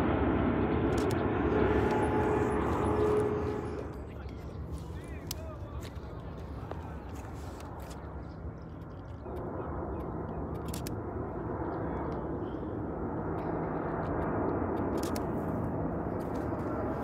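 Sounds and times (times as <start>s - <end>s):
jet airliner engine drone: 0.0s - 17.0s.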